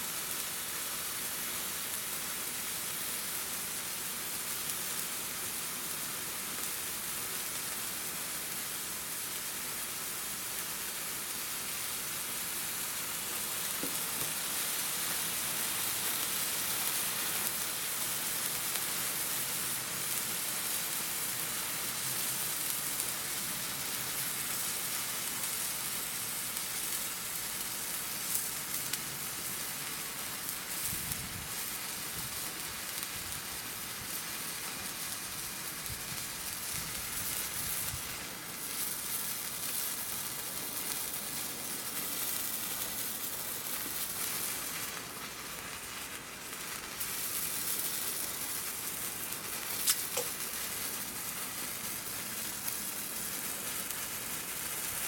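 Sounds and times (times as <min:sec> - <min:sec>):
sparkler crackles: 0:00.0 - 0:55.0
sparklers fizzing hiss: 0:00.0 - 0:55.0.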